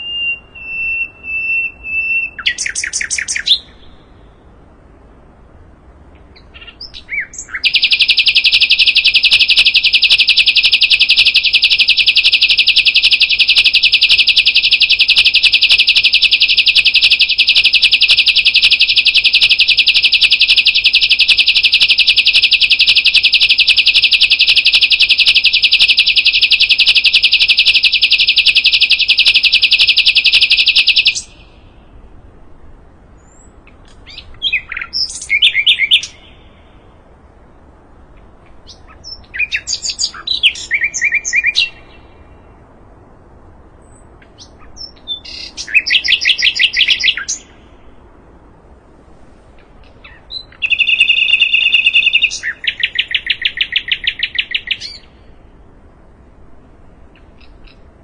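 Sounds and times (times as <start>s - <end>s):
songbird singing buzzy trills: 0.0s - 48.8s, 49.5s - 58.0s.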